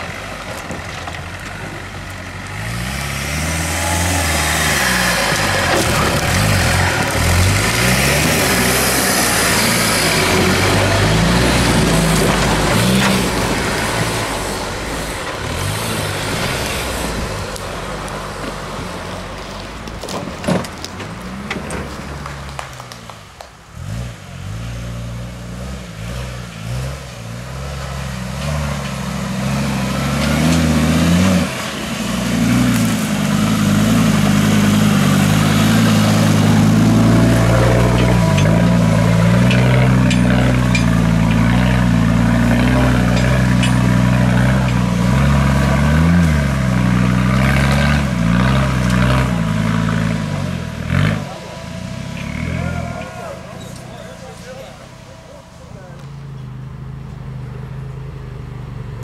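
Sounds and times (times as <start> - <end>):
off-road engines revving: 0.0 - 59.0.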